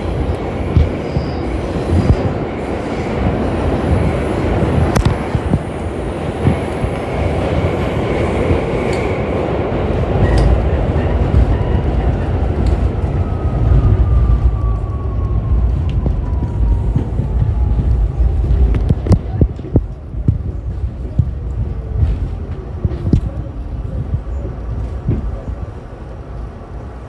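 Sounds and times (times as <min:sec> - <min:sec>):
train wheel and rail rumble: 0:00.0 - 0:27.0.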